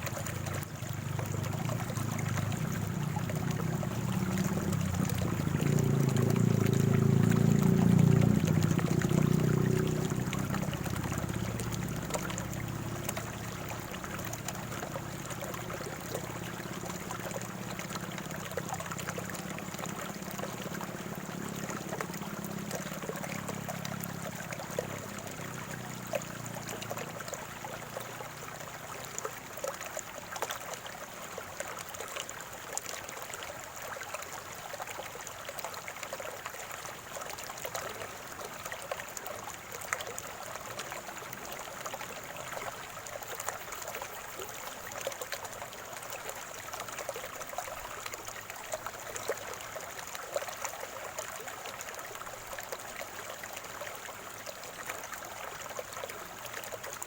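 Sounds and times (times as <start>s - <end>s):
small water splashes: 0.0s - 57.0s
stream water trickling: 0.0s - 57.0s.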